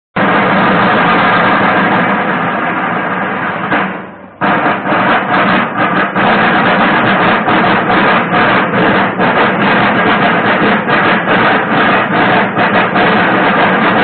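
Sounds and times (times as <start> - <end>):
marching drums drumming: 0.2 - 14.0.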